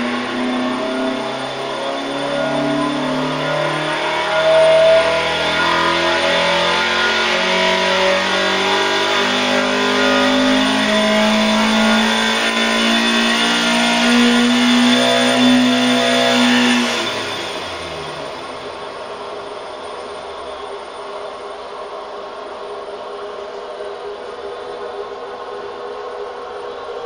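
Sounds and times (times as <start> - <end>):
race engine running under load: 0.0 - 27.0.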